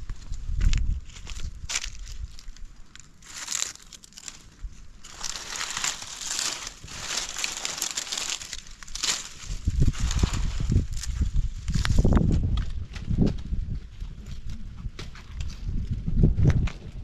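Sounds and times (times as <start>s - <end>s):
rustling crinkling noise: 0.0s - 16.9s.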